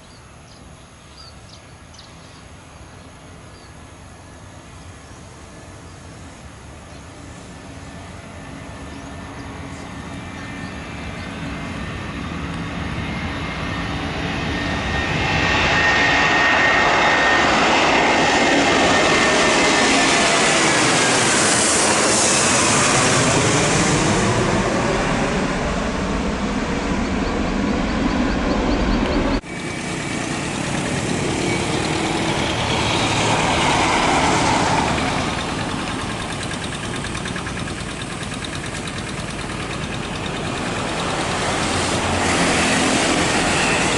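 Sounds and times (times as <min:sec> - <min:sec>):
jet airliner passing: 0:02.1 - 0:43.9.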